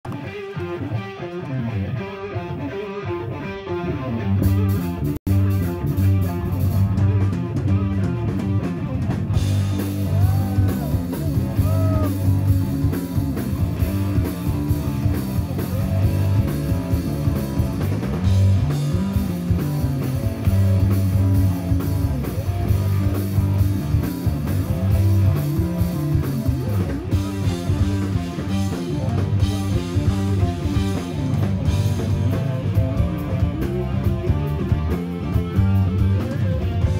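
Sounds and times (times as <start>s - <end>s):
bass guitar: 0.0s - 36.9s
electric guitar: 0.0s - 36.9s
drum kit: 4.2s - 36.9s.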